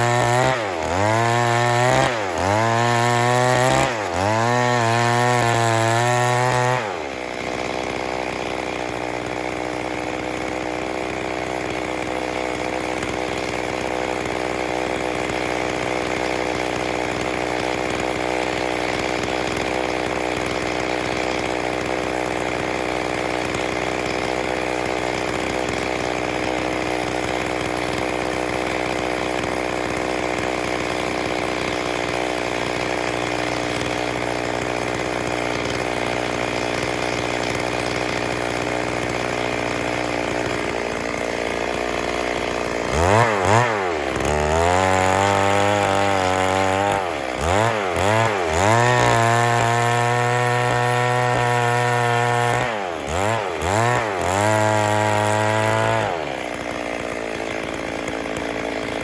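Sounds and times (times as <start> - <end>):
chainsaw running and revving: 0.0 - 59.0.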